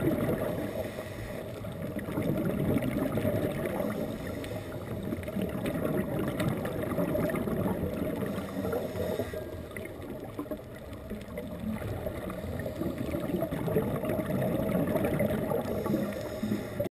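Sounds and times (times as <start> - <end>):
underwater rush with gurgling: 0.0 - 16.9.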